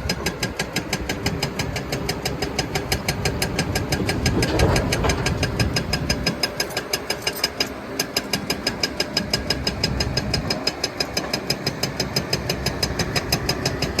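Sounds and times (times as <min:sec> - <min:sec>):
diesel engine clattering: 0:00.0 - 0:14.0.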